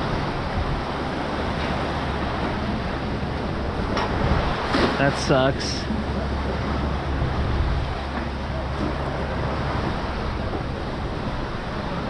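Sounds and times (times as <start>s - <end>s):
water moving: 0.0s - 12.0s
wind rumble on microphone: 0.0s - 12.0s.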